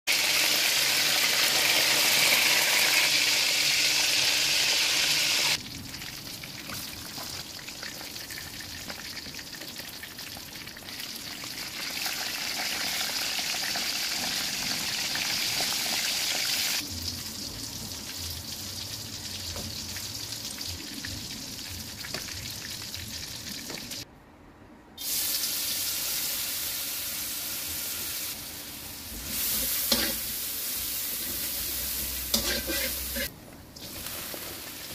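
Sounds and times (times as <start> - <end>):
hot oil sizzling in a wok: 0.1 - 24.0, 25.0 - 34.9.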